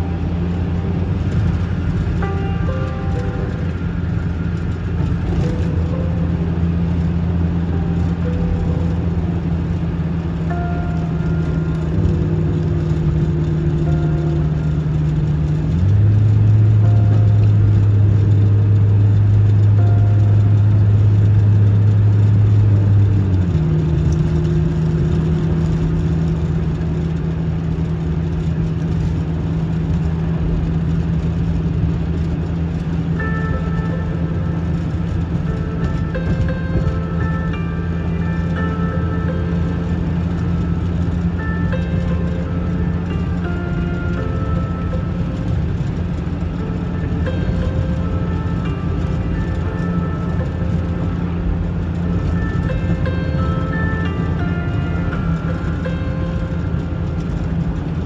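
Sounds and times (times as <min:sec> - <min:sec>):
ambient instrumental music: 0:00.0 - 0:58.0.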